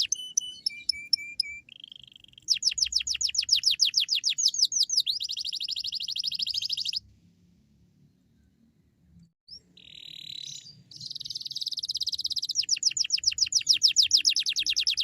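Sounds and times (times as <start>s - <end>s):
canary singing: 0.0s - 7.0s, 9.5s - 15.0s.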